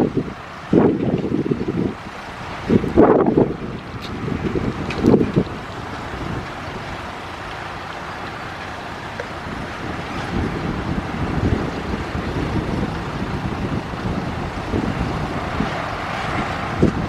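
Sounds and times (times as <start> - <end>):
heavy machinery diesel engine: 0.0 - 17.0
wind buffeting microphone: 0.0 - 17.0.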